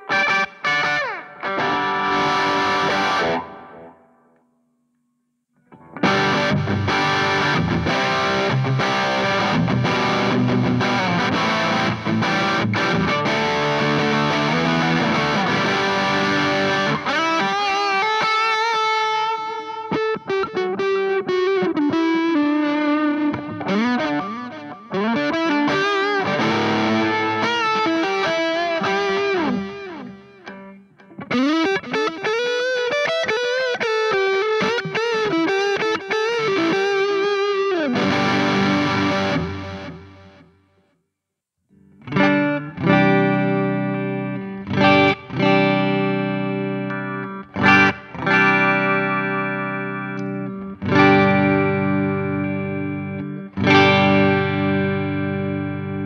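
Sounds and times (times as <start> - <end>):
distorted electric guitar: 0.0 - 41.0, 41.7 - 56.0.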